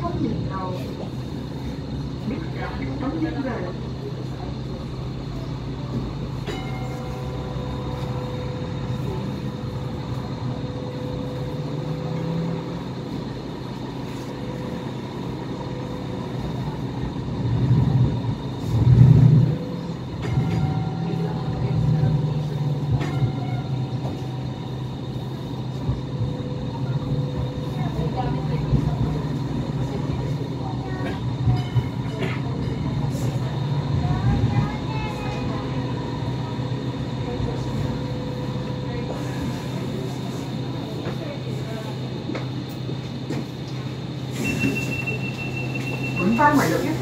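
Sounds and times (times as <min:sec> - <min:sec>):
light rail car rumbling on track: 0:00.0 - 0:47.0.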